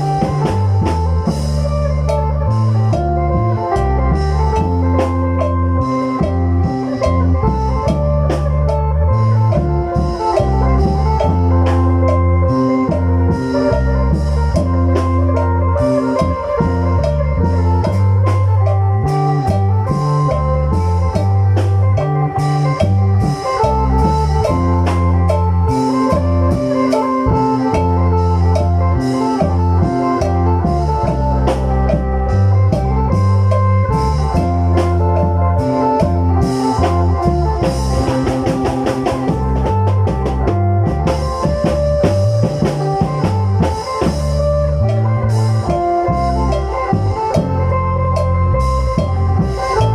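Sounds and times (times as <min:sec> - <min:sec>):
steady drums: 0:00.0 - 0:49.9
stepping bass line: 0:00.0 - 0:49.9.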